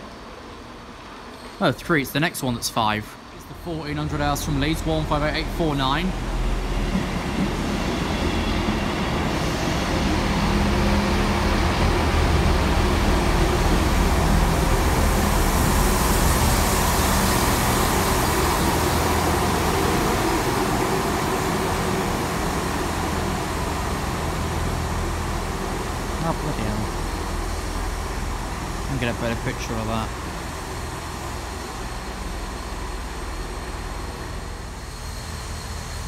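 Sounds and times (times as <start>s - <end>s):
diesel train engines running: 0.0s - 36.0s
train wheels rumbling on rails: 0.0s - 36.0s.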